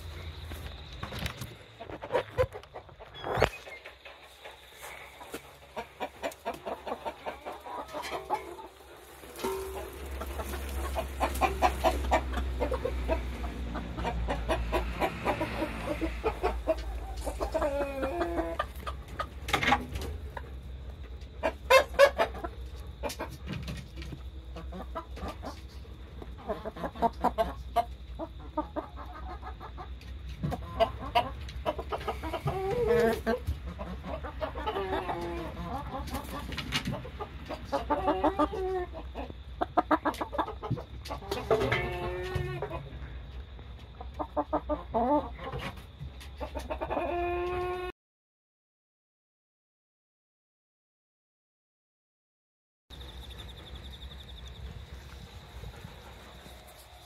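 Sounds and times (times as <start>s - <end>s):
hens clucking: 0.0s - 47.9s.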